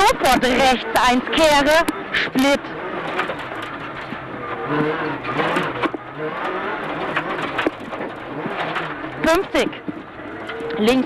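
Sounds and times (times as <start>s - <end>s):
rally car engine revving: 0.0s - 11.0s
tyres on gravel: 0.0s - 11.0s.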